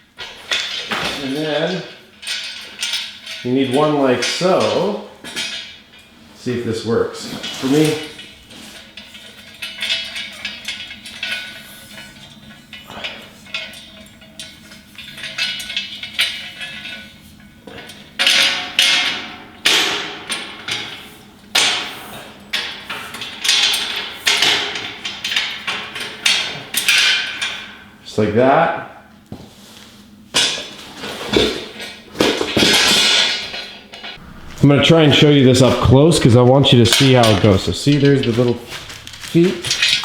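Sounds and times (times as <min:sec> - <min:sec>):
metal rails clanking against frame: 0:00.1 - 0:28.0, 0:30.4 - 0:40.0.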